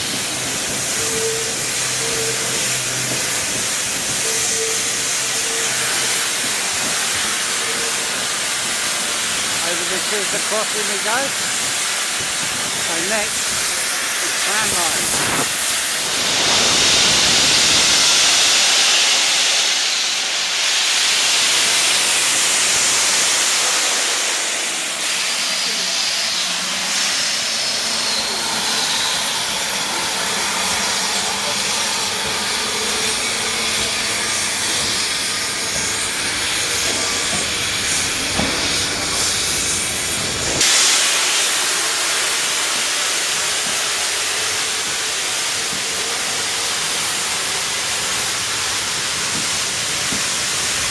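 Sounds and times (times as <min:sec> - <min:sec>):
steam locomotive blowing off steam: 0:00.0 - 0:50.9.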